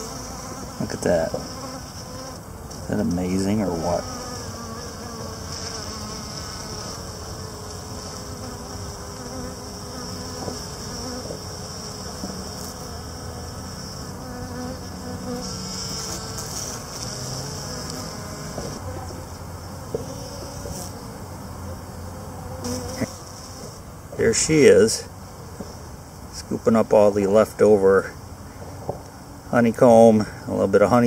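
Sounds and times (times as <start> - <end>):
bees buzzing: 0.0 - 30.2.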